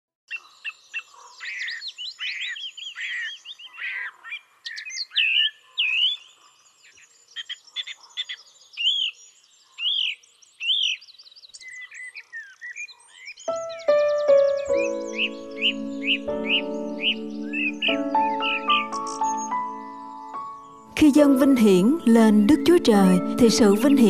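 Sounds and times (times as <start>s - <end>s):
birds chirping and whistling: 0.3s - 24.0s.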